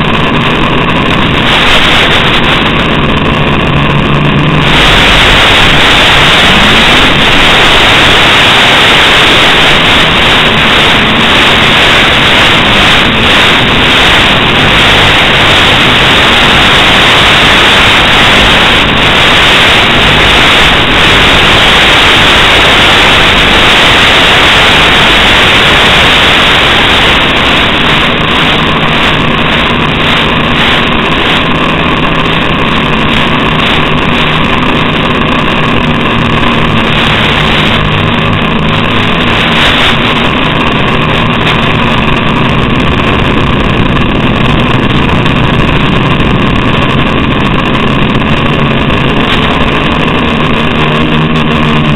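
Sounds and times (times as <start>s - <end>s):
static hiss: 0.0s - 51.9s
steady humming tones: 0.0s - 51.9s.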